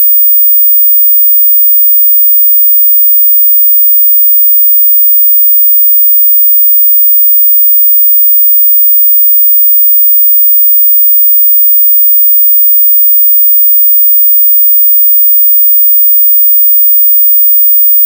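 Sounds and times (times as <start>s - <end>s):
high-pitched sine-wave test tone: 0.0s - 18.0s.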